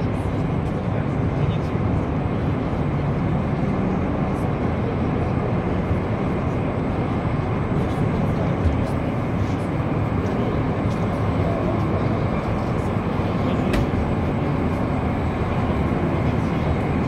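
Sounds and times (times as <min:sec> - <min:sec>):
loud rumbling background noise: 0:00.0 - 0:17.0.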